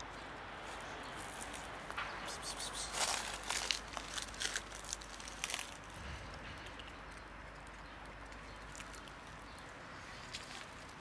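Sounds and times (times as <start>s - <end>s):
dry leaves crackling underfoot: 0.0s - 11.0s
low outdoor background: 0.0s - 11.0s.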